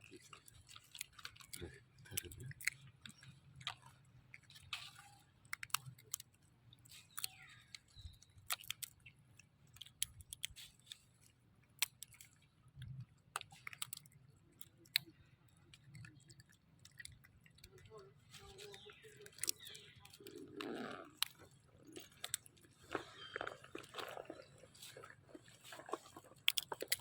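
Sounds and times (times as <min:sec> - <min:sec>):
baby monkey chewing food: 0:00.0 - 0:27.0.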